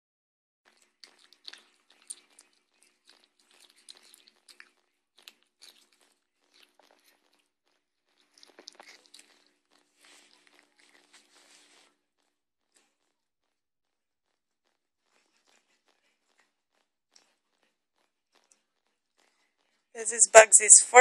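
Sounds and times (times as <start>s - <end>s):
pet crunching and chewing: 0.7s - 13.1s, 14.6s - 19.4s.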